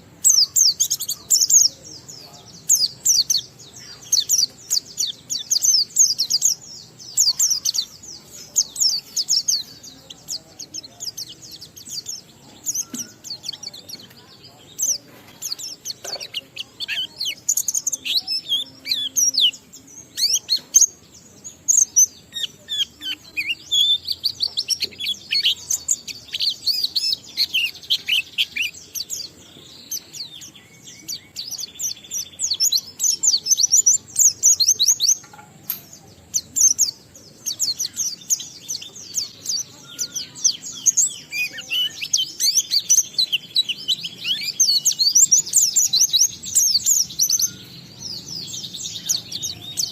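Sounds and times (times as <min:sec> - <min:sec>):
bird twittering song: 0:00.0 - 0:49.9.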